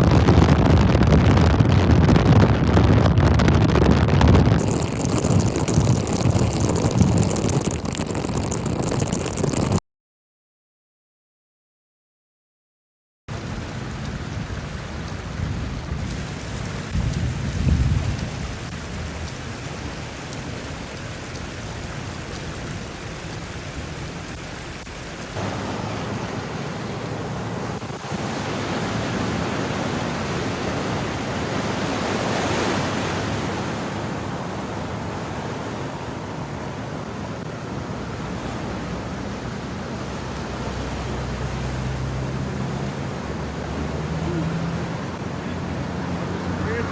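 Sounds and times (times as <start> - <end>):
heavy rain and water rushing: 0.0 - 9.8, 13.3 - 46.9.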